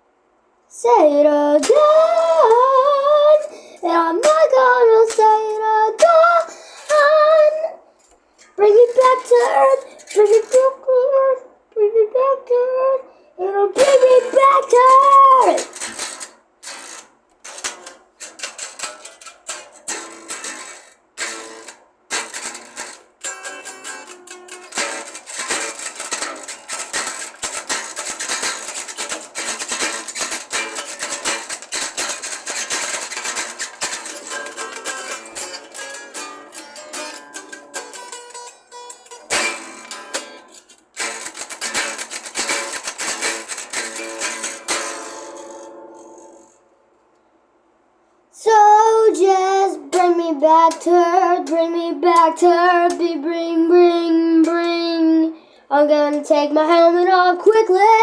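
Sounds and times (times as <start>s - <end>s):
plucked string instrument strummed: 1.5s - 11.2s, 13.7s - 47.0s, 48.5s - 58.0s.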